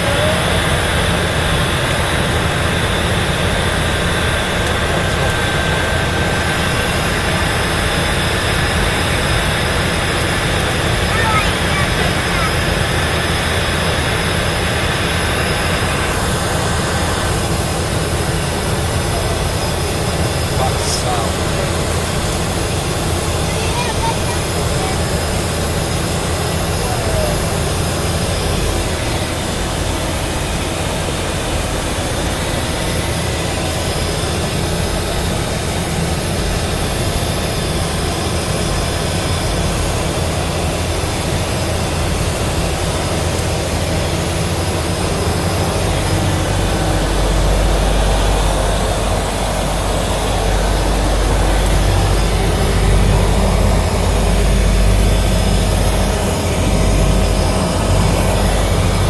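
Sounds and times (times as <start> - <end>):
turboprop engine running: 0.0 - 59.0.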